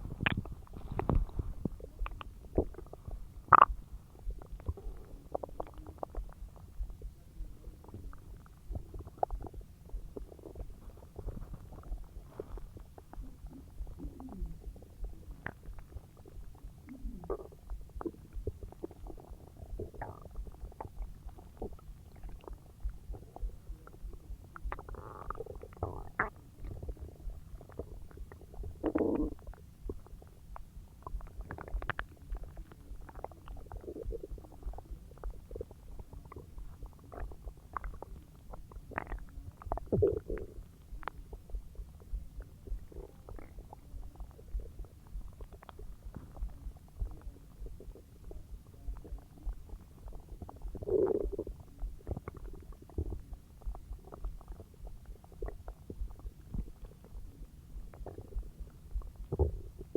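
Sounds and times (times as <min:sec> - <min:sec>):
stomach gurgling and rumbling: 0:00.0 - 0:59.9.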